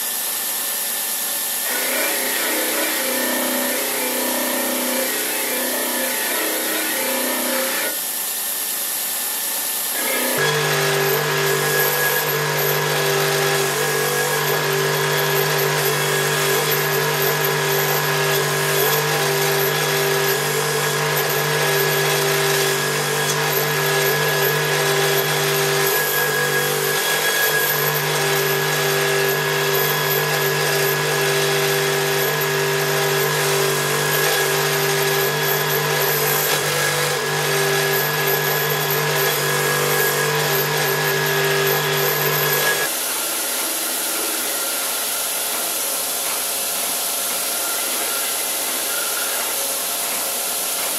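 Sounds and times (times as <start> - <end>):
belt grinder whirring: 0.0 - 50.9
belt grinder motor hum: 1.6 - 8.0, 10.0 - 50.9.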